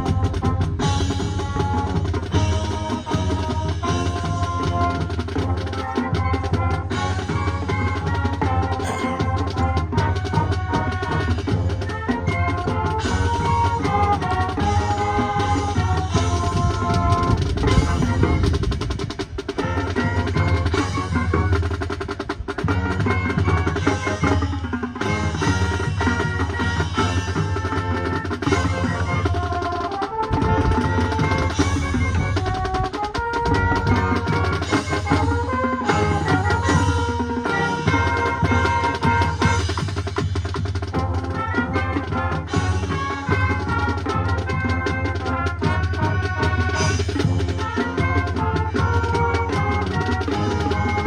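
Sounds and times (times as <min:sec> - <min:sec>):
drum strokes: 0:00.0 - 0:51.0
marching band playing: 0:00.0 - 0:51.0.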